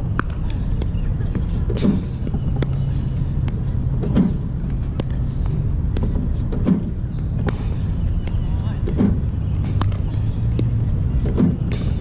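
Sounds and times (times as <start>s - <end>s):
ball bouncing: 0.0s - 12.0s.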